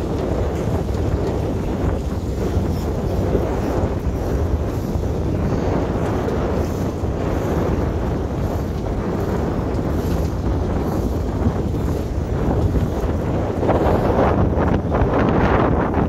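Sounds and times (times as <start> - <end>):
sea water rushing along hull: 0.0 - 16.0
wind buffeting microphone: 0.0 - 16.0.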